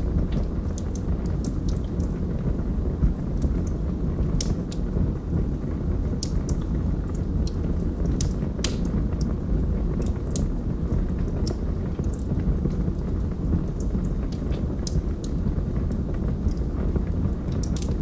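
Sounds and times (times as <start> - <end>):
fire flames rumbling: 0.0 - 18.0
wood crackling and popping: 0.0 - 18.0.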